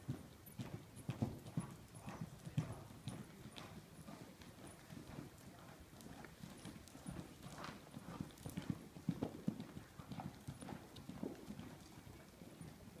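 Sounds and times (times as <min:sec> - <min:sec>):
hooves thudding on sand: 0:00.0 - 0:11.9.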